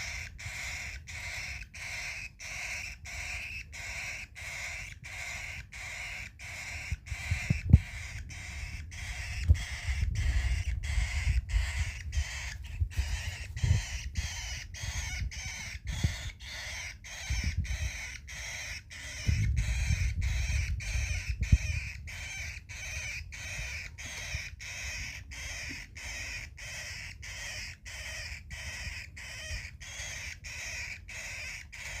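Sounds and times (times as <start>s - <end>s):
bird raspy begging calls: 0.0s - 32.0s.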